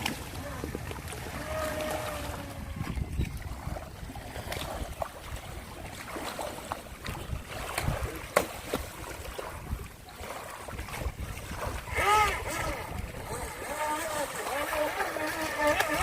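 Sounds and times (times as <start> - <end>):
sea waves: 0.0 - 16.0
small splashes and ticks: 0.0 - 16.0
wind buffeting microphone: 0.0 - 16.0.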